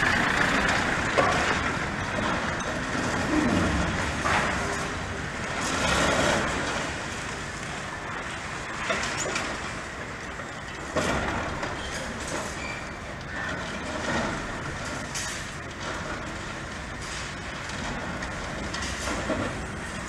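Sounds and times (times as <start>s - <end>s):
concrete breaking clatter: 0.0s - 20.0s
excavator engine running: 0.0s - 20.0s
loud debris crash: 0.0s - 20.0s.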